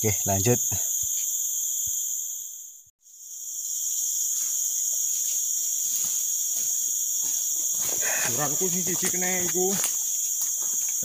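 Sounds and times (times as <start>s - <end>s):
forest insects buzzing: 0.0s - 11.0s.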